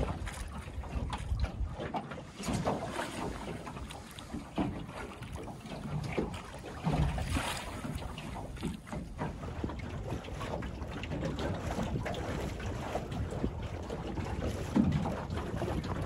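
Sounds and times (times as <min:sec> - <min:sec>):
water splashing along boat hull: 0:00.0 - 0:16.0
wind buffeting microphone: 0:00.0 - 0:16.0.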